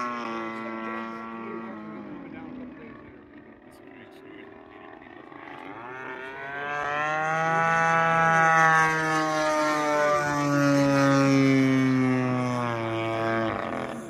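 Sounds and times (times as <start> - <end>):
model plane propeller drone: 0.0 - 14.0.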